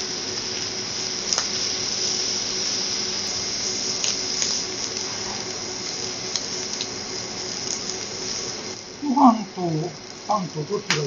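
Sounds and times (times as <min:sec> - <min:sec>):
seafood sizzling on a griddle: 0:00.0 - 0:11.0.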